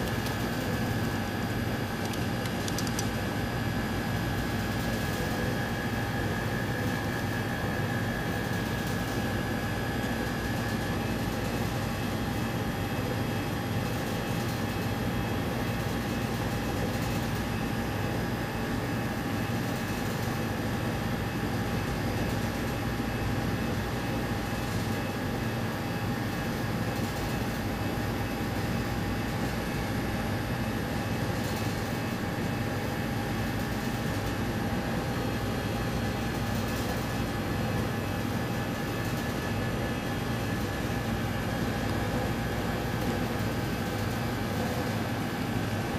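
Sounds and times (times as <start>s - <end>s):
constant high whine: 0.0s - 45.9s
equipment whirring hum: 0.0s - 45.9s.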